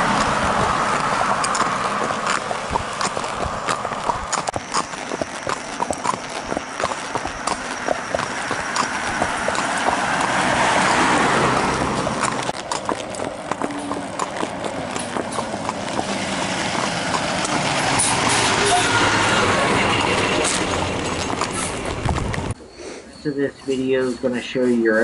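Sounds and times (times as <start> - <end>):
horse hooves clip-clopping on asphalt: 0.0 - 22.6
passing car tyre noise: 0.0 - 22.6.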